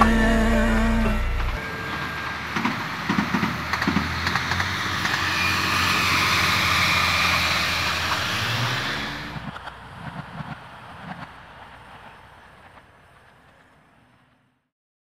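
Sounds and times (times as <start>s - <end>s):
rush of passing train: 0.0s - 14.7s
train wheel clacks: 1.4s - 14.5s.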